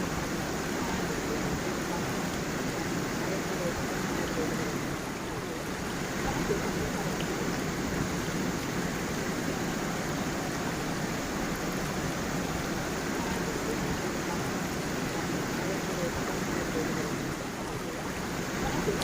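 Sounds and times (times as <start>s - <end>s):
stream water splashing over stones: 0.0s - 19.0s.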